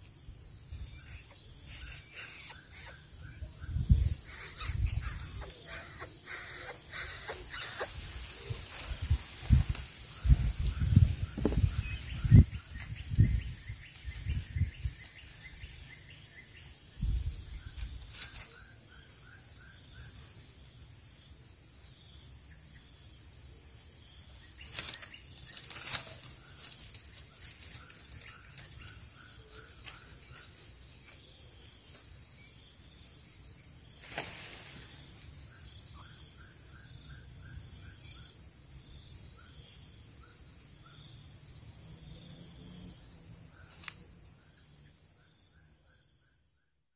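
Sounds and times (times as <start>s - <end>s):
insect chorus: 0.0s - 46.9s.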